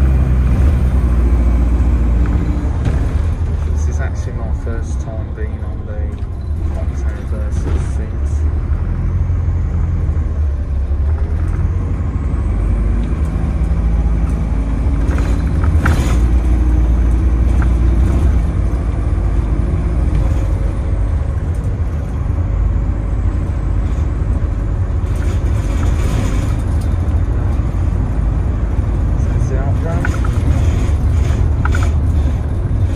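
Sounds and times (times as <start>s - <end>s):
bus engine and road noise: 0.0s - 32.9s.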